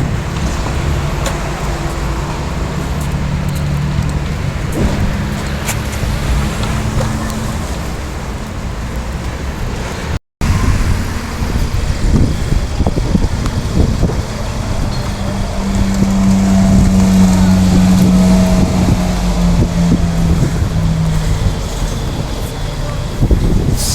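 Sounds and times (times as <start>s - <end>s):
car engine running: 0.0s - 23.8s
street traffic: 0.0s - 23.9s
vehicle passing: 0.0s - 23.9s.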